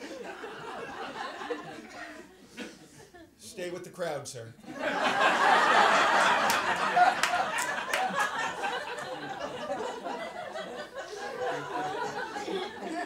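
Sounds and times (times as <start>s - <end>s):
audience laughing: 0.0s - 3.0s, 4.6s - 13.0s.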